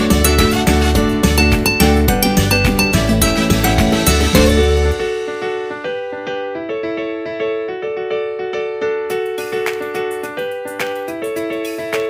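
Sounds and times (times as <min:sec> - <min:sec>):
piano notes: 0:00.0 - 0:12.0.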